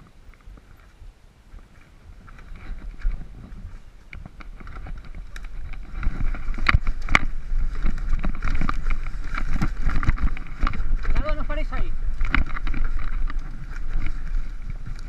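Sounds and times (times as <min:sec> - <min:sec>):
bike tyre rumble on dirt: 0:00.0 - 0:15.0
wind on microphone: 0:00.0 - 0:15.0.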